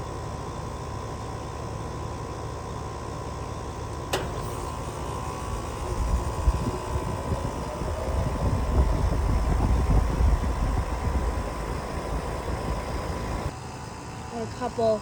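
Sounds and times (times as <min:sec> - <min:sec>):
air conditioner fan hum: 0:00.0 - 0:15.0.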